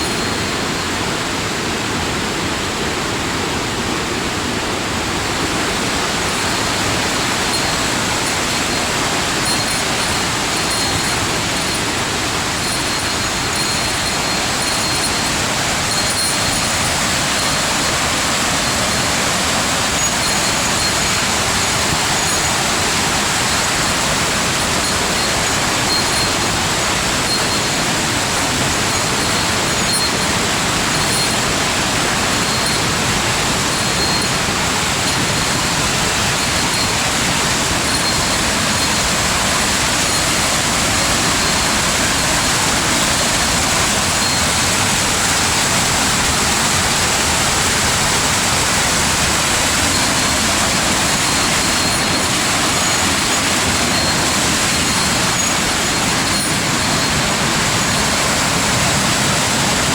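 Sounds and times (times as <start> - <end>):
waterfall pouring: 5.0 - 59.9.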